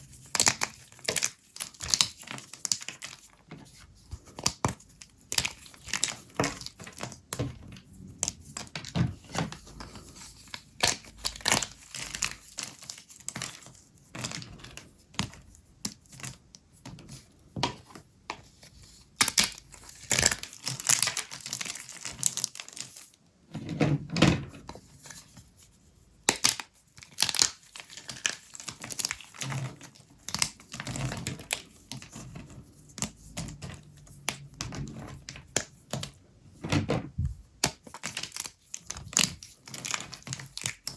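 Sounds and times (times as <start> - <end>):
brittle soap cracking and crumbling: 0.0 - 16.4, 17.7 - 23.2, 26.2 - 36.2, 37.6 - 40.9.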